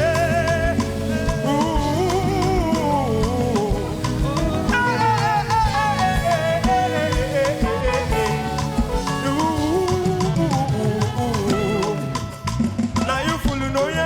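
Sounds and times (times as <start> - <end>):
church band worship music: 0.0 - 14.0.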